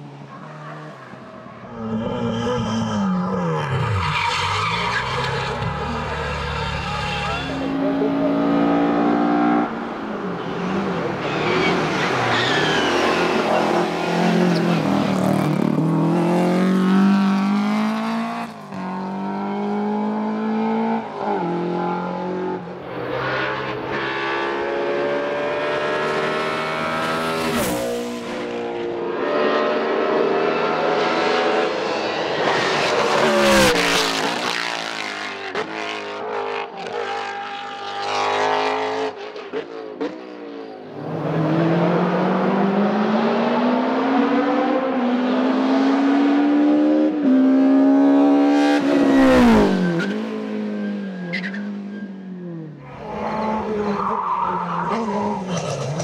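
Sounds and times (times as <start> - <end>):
racing car engines at full throttle: 0.0 - 56.0.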